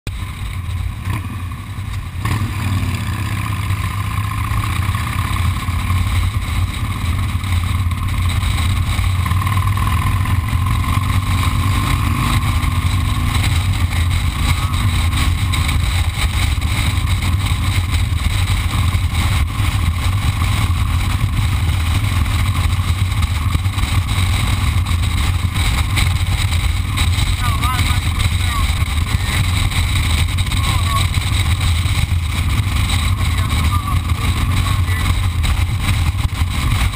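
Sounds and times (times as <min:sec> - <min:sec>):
motorcycle engine rumble: 0:00.0 - 0:36.9.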